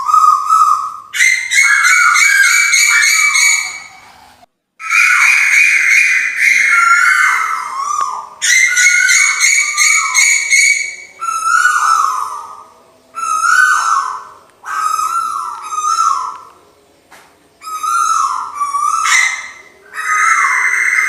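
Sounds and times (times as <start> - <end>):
bird calling: 0.0 - 16.8, 17.6 - 21.0.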